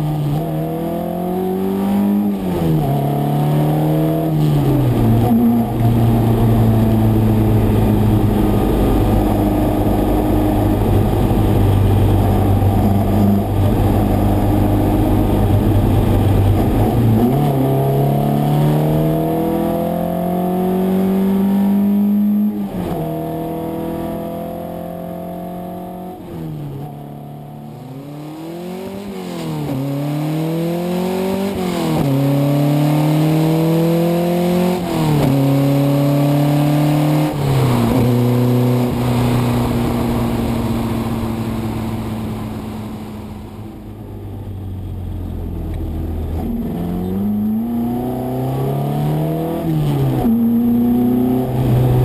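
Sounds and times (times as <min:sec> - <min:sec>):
car engine accelerating through gears: 0:00.0 - 0:52.0.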